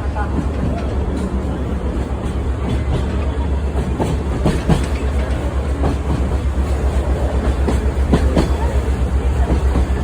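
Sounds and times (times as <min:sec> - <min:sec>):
train rumbling along track: 0:00.0 - 0:10.0
wheels clattering on rails: 0:00.0 - 0:10.0.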